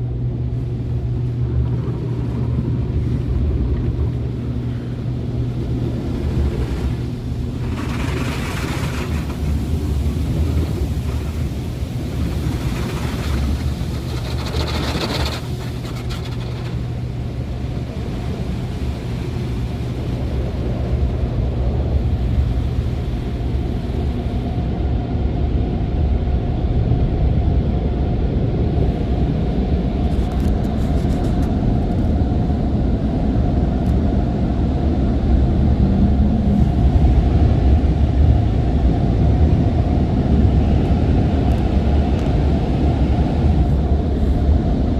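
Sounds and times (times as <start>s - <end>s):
car wash equipment rumbling: 0.0s - 44.9s.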